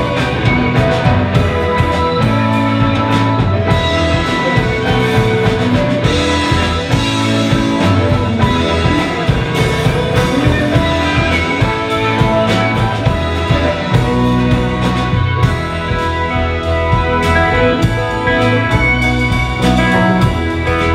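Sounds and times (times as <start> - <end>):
drum kit beat: 0.0 - 20.9
electric guitar: 0.0 - 20.9
keyboards: 0.0 - 20.9.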